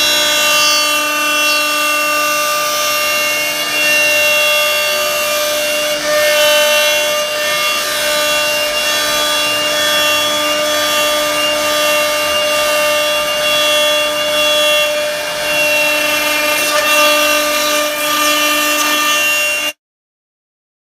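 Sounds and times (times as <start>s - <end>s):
router bit rasping wood: 0.0s - 19.8s
wood router spindle whine: 0.0s - 19.8s.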